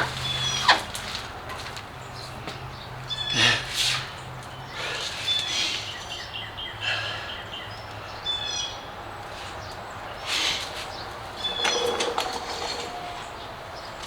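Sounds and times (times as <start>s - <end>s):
birds chirping and trilling: 0.0s - 1.2s, 2.0s - 3.6s, 4.5s - 14.0s.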